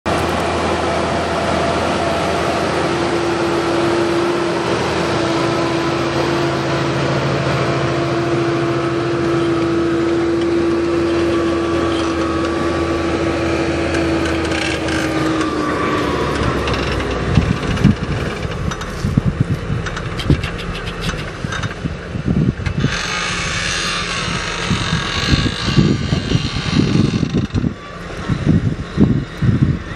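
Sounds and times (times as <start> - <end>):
tractor engine under load: 0.1 - 29.9.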